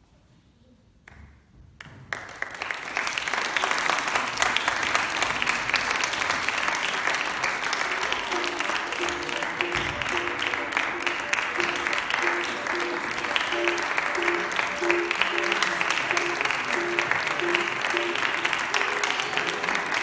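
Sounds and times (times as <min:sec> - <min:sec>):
audience applauding: 0:02.0 - 0:20.0
faint music: 0:03.7 - 0:20.0.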